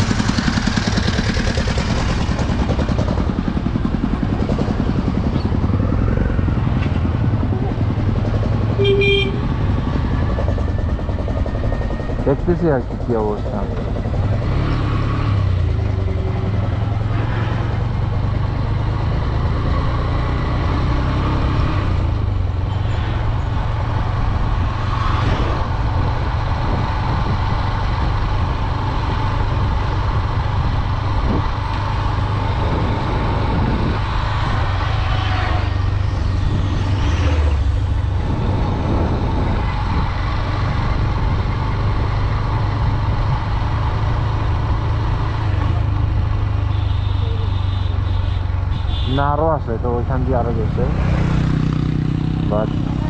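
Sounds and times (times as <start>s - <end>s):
motorcycle engine rumbling: 0.0s - 53.0s.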